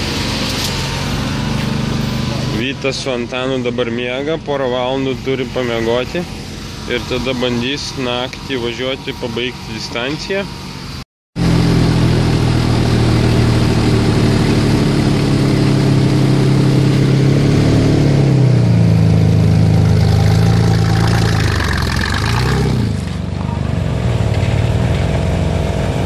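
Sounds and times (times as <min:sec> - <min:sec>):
car engine idling: 0:00.0 - 0:25.3.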